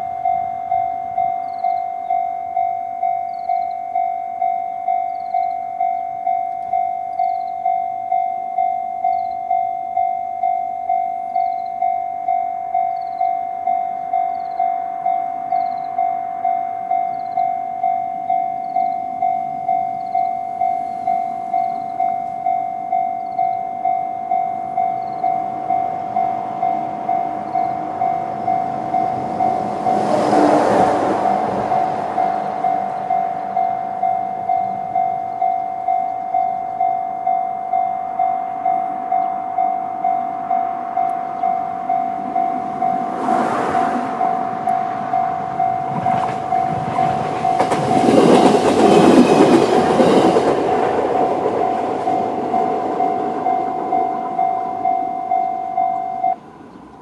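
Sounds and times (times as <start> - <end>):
level crossing bell dinging: 0.0 - 30.0, 31.7 - 43.1, 51.5 - 56.4
electric train rumble: 0.0 - 57.0.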